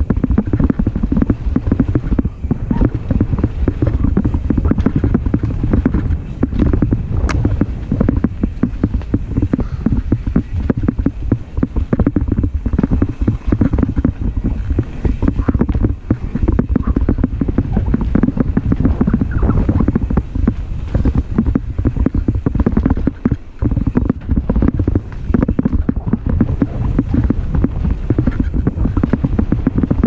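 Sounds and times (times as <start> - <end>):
bike clicking and rattling: 0.0 - 30.0
wind rumble on microphone: 0.0 - 30.0.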